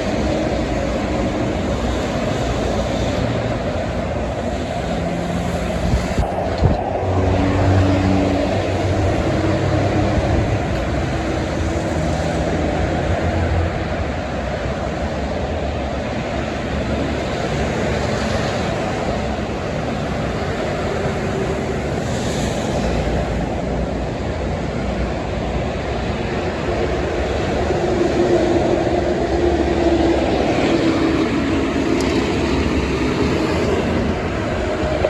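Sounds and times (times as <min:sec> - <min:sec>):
engine drone: 0:00.0 - 0:35.0
heavy highway traffic: 0:00.0 - 0:35.0
trucks passing: 0:00.0 - 0:35.0.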